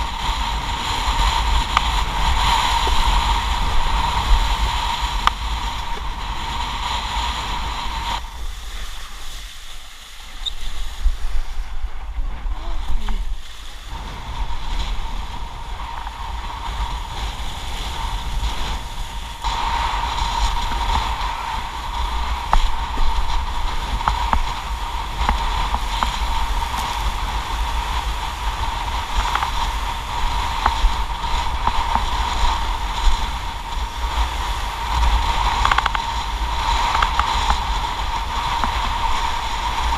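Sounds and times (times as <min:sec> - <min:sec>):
board splashing through sea: 0:00.0 - 0:39.9
wind buffeting camera: 0:00.0 - 0:39.9.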